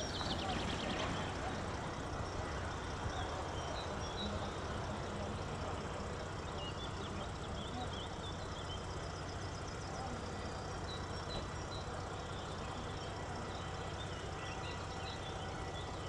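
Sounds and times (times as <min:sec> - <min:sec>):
birds chirping: 0:00.0 - 0:16.0
electric locomotive humming: 0:00.0 - 0:16.0.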